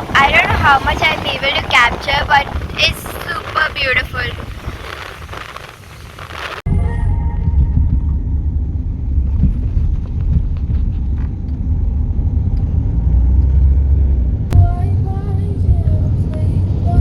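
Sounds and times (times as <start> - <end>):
car driving tyre and engine rumble: 0.0 - 17.0.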